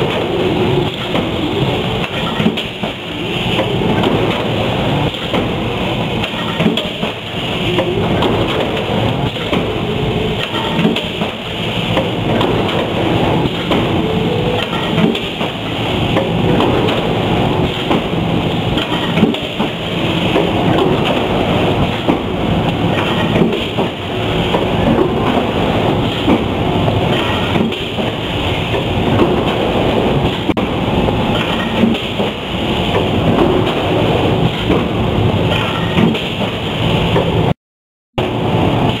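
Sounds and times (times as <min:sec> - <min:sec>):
machine clanks and knocks: 0:00.0 - 0:37.5
industrial machine running: 0:00.0 - 0:37.6, 0:38.2 - 0:39.0.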